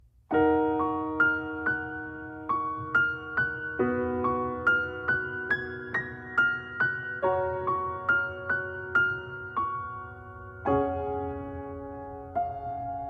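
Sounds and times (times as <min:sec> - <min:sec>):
slow soft piano music: 0:00.0 - 0:13.0.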